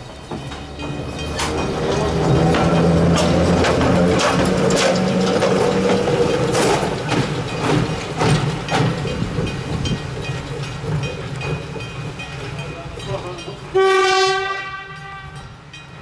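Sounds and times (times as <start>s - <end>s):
electric locomotive hum: 0.0s - 16.0s
wheels clicking over rail joints: 0.0s - 16.0s.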